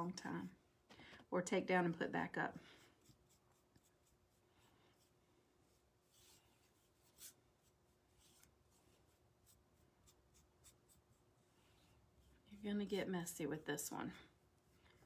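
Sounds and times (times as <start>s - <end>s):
paintbrush strokes on wood: 2.5s - 15.0s.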